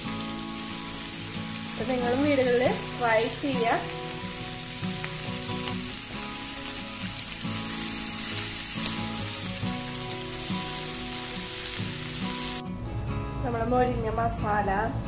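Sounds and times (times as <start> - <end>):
chicken sizzling in a pan: 0.0 - 12.6
soft background music: 0.0 - 15.0.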